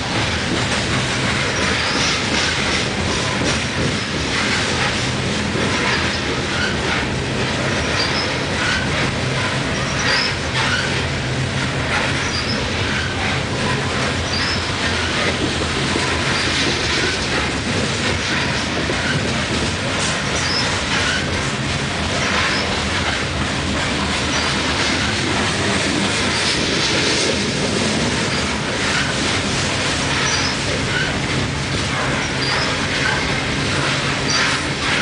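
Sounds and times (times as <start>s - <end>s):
steel wheels rumbling on rail: 0.0s - 35.0s.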